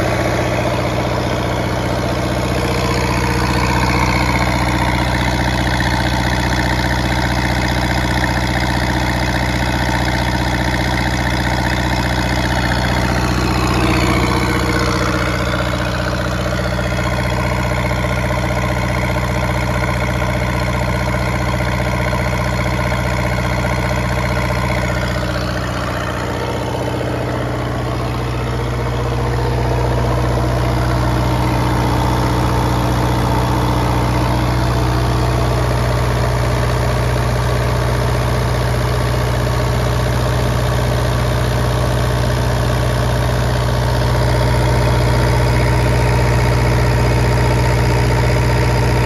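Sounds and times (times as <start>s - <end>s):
diesel generator running: 0.0s - 49.0s.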